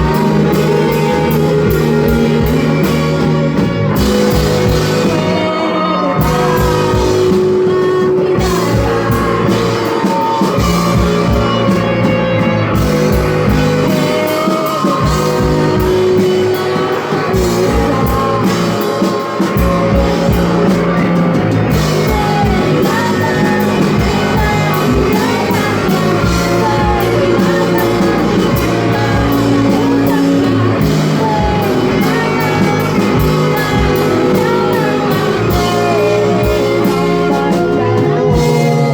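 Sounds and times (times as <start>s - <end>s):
person singing: 0.0s - 38.9s
rock band guitar and drums: 0.0s - 38.9s.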